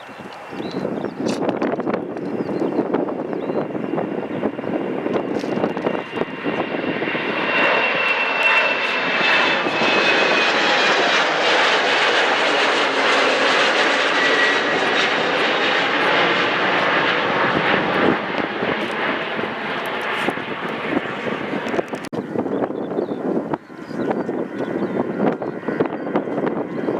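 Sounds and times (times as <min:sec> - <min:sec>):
jet engines passing: 0:00.0 - 0:26.9.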